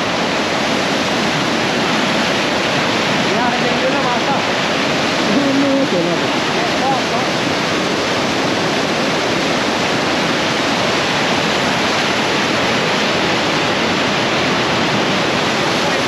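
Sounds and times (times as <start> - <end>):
water rushing over a dam: 0.0 - 16.0.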